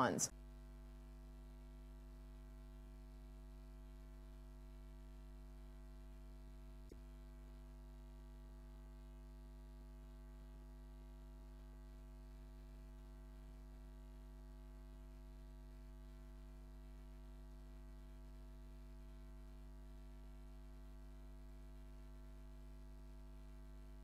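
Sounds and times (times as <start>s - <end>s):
faint mains hum: 0.0s - 24.0s.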